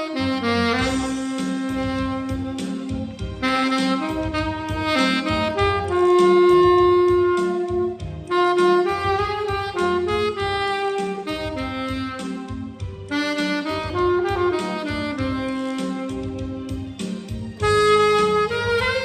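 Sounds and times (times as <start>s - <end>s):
pulsing bass: 0.0s - 19.0s
saxophone melody: 0.0s - 19.0s.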